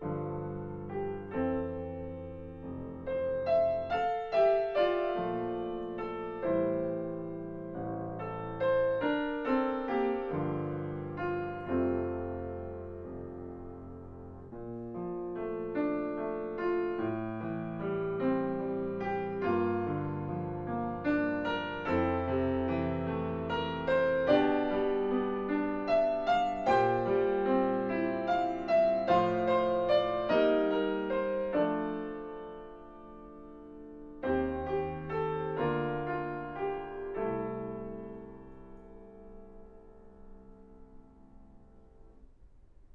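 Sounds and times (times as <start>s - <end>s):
slow gentle piano piece: 0.0s - 42.9s.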